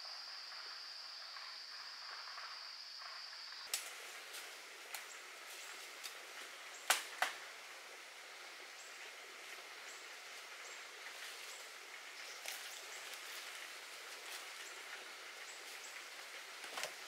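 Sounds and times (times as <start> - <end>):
forest background hiss: 0.0 - 17.0.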